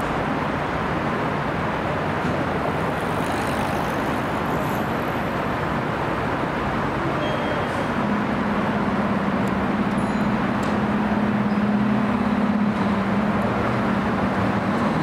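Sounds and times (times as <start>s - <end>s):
motor vehicles rumbling: 0.0s - 15.0s.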